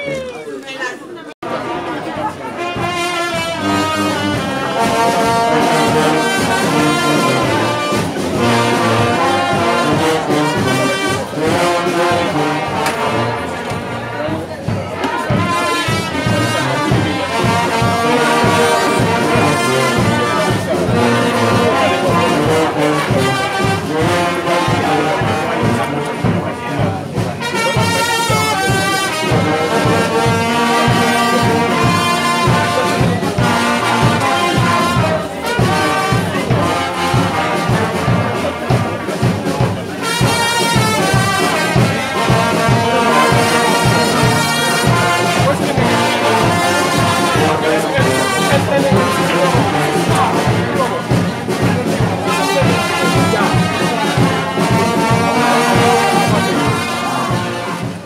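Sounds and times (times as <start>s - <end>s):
brass band playing: 0.0s - 58.0s.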